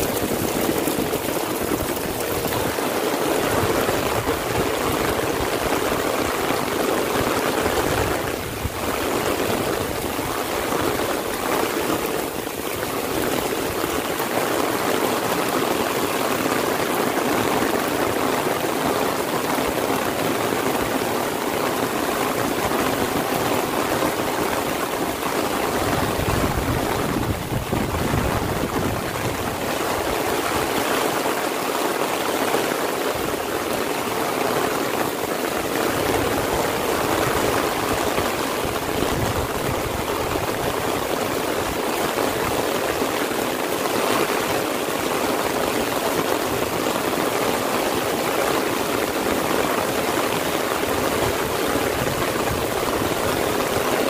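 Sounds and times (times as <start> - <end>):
heavy rain on umbrella: 0.0 - 54.0
rain on fields and trees: 0.0 - 54.0.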